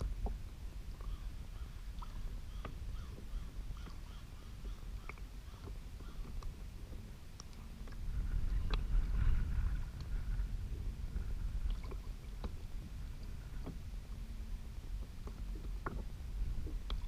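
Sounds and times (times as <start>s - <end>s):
water lapping against kayak: 0.0s - 17.0s
wind rumble on microphone: 0.0s - 17.0s.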